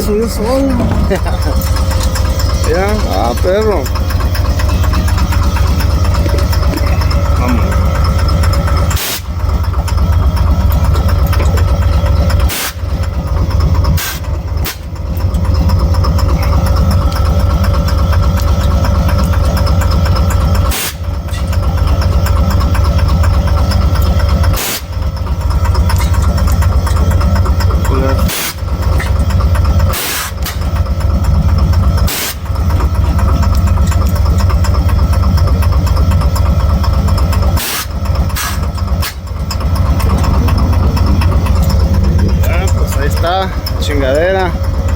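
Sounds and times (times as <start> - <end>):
engine knocking: 0.0 - 44.9.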